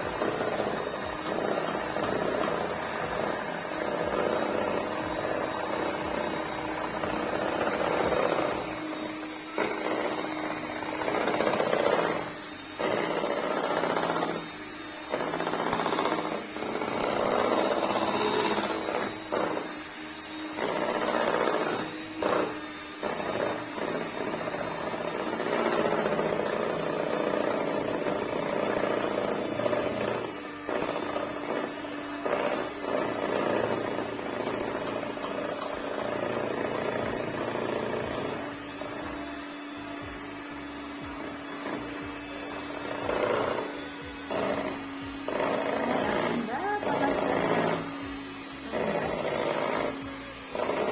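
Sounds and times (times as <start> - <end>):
electric hand mixer whining: 0.0 - 50.9.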